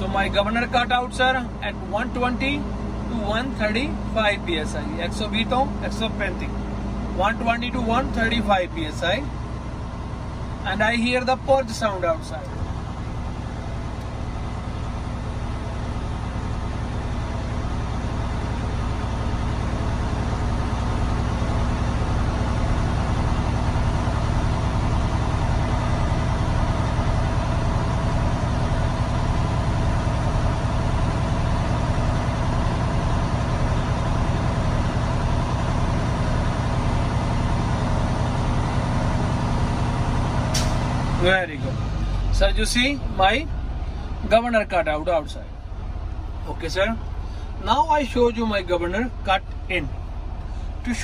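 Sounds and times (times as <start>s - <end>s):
truck diesel engine idling: 0.0s - 51.0s.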